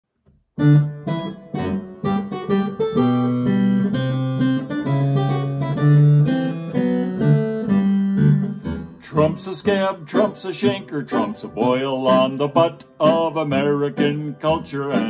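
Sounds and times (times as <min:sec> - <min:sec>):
acoustic guitar strumming: 0:00.6 - 0:15.0.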